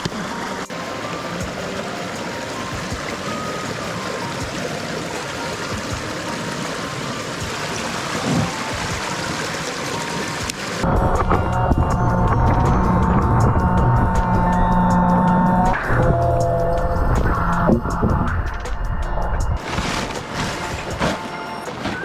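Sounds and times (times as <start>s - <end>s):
water running: 0.0s - 21.5s.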